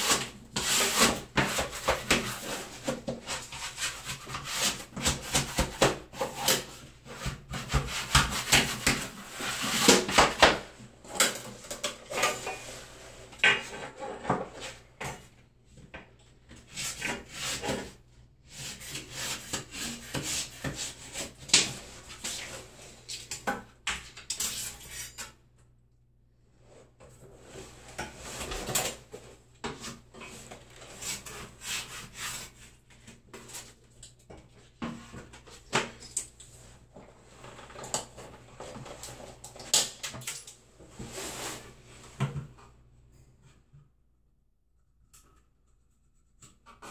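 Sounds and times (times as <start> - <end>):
rubbing and scraping wallpaper: 0.0 - 15.4, 16.5 - 25.4, 26.5 - 39.8, 40.7 - 42.6.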